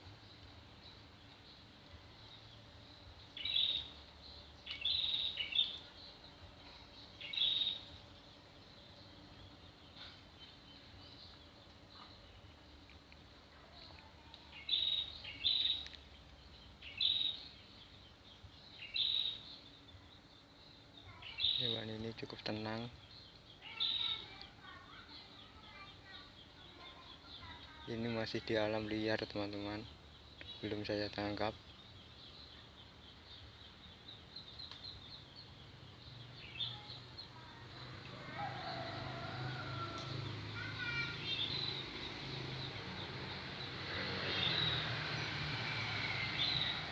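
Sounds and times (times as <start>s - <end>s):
faint outdoor background noise: 0.0s - 46.9s.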